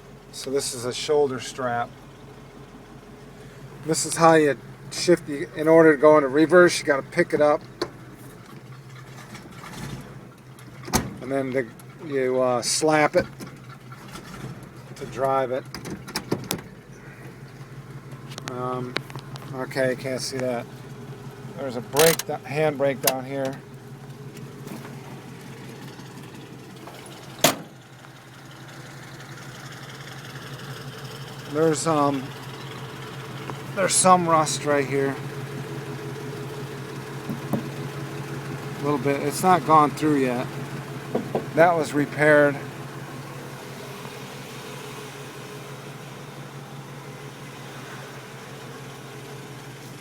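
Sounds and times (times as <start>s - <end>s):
pickup engine idling: 0.0s - 50.0s.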